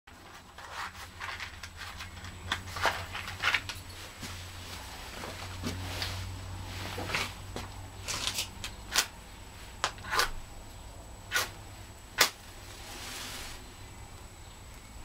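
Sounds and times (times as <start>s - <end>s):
low steady hum: 0.1s - 15.0s.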